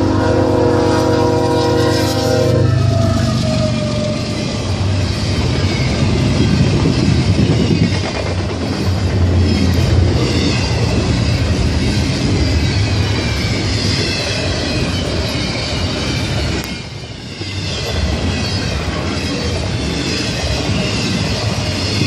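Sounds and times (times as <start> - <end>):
freight train wheels clattering: 3.0 - 22.0.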